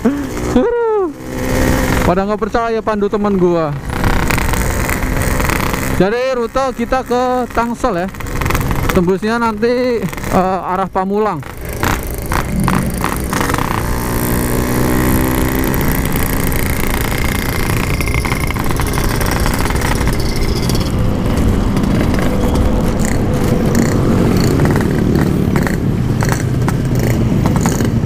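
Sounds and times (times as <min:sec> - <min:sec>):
two-stroke motorcycle engine: 0:00.0 - 0:28.0
wind and road noise: 0:00.0 - 0:28.0.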